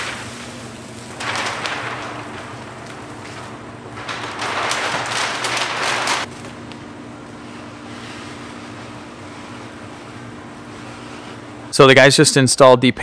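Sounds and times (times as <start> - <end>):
plastic film rustling and crinkling: 0.0 - 11.5.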